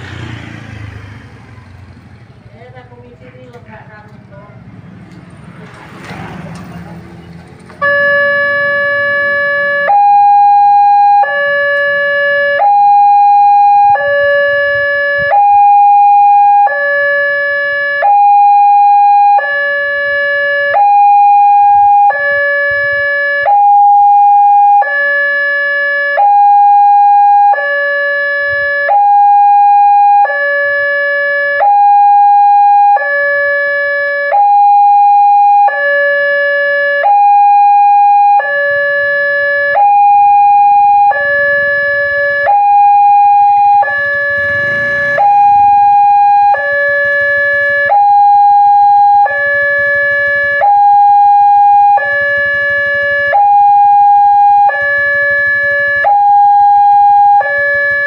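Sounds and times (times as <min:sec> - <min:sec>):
level crossing two-tone alarm: 0:07.8 - 0:58.0.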